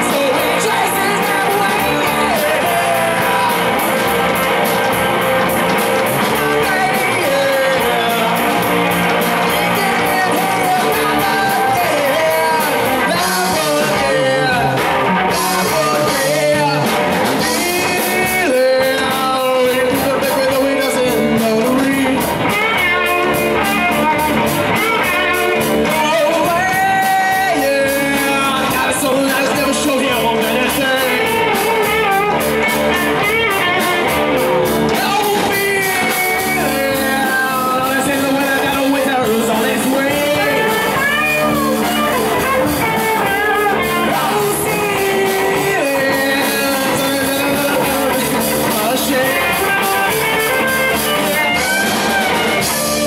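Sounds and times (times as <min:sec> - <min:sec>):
male vocalist singing: 0:00.0 - 0:53.0
rock band playing: 0:00.0 - 0:53.0.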